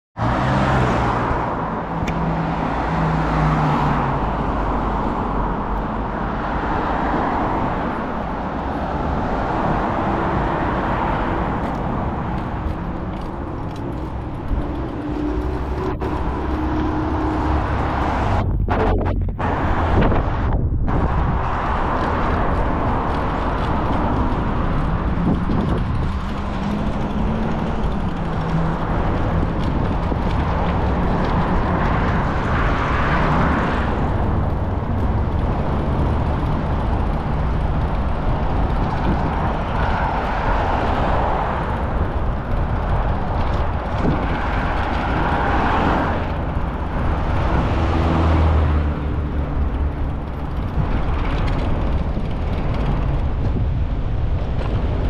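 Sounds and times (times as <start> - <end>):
wind buffeting microphone: 0.2 - 55.0.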